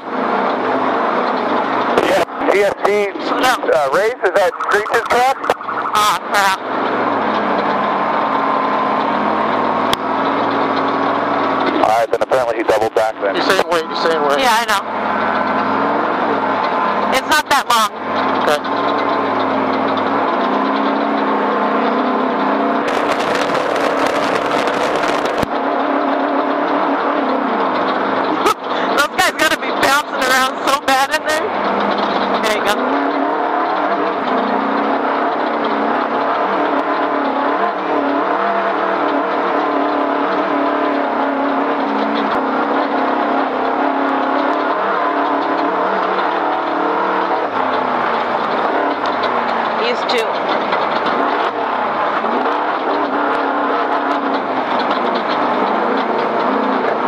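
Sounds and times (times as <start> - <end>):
vehicle engine running: 0.0 - 57.0
crackly rattling noise: 0.4 - 14.2, 17.9 - 28.5, 29.2 - 57.0.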